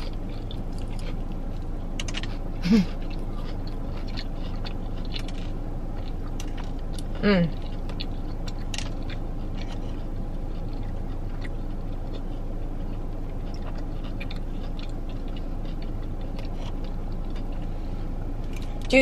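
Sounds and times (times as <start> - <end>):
chewing with faint crunches: 0.0 - 19.0
steady low hum: 0.0 - 19.0.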